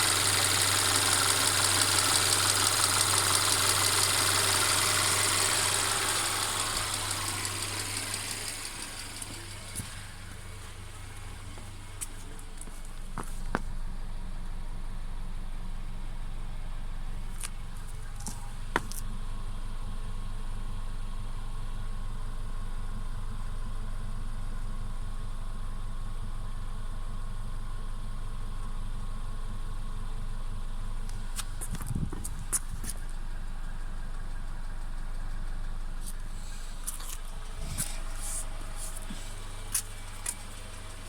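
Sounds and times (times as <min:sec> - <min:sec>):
car engine idling: 0:00.0 - 0:41.0
engine rattling: 0:00.0 - 0:41.0.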